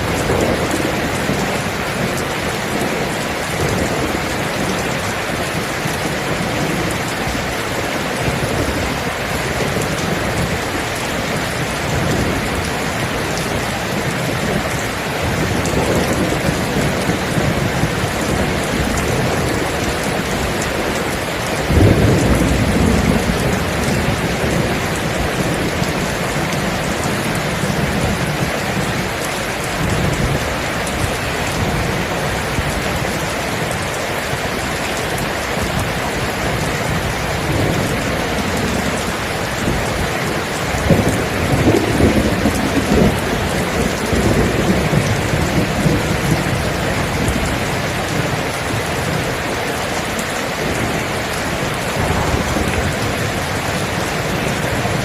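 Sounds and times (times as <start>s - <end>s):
thunder rumbling: 0.0s - 49.3s, 50.3s - 55.0s
heavy rain: 0.0s - 55.0s.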